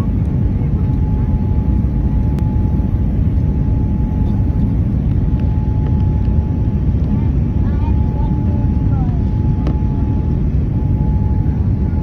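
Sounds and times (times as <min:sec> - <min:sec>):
airliner cabin engine rumble: 0:00.0 - 0:12.0
faint steady tone: 0:00.0 - 0:12.0.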